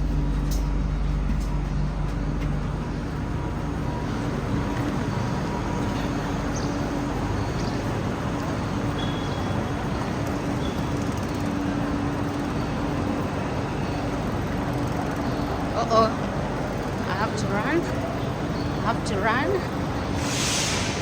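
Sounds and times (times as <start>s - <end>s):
rumble of trains and machinery: 0.0s - 21.0s.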